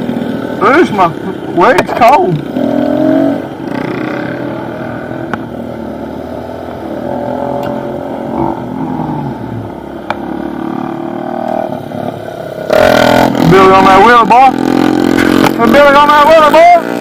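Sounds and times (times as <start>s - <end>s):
pit bike engine revving: 0.0s - 17.0s.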